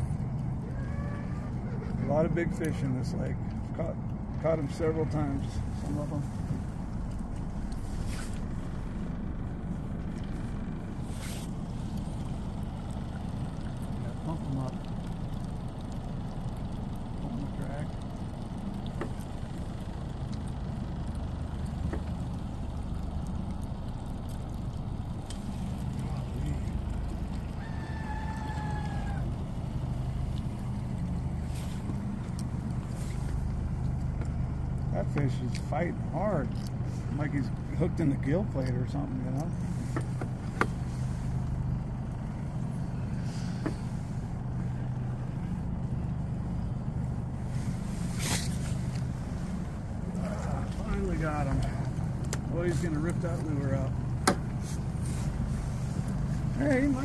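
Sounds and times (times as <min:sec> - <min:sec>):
boat motor humming: 0:00.0 - 0:57.0.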